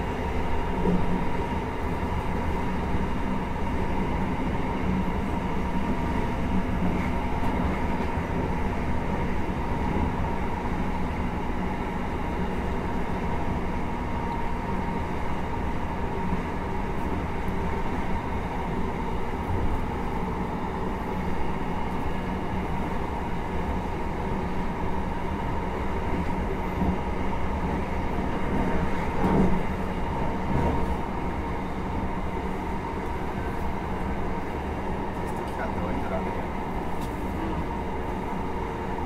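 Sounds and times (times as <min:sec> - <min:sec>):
wheels rumbling on rails: 0:00.0 - 0:39.0.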